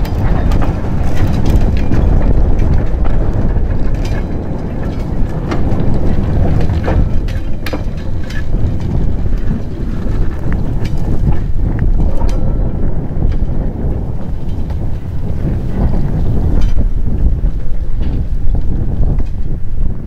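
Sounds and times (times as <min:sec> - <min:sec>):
diesel locomotive running: 0:00.0 - 0:19.7
wheels clicking on track: 0:00.0 - 0:20.0
wind buffeting microphone: 0:00.0 - 0:20.0.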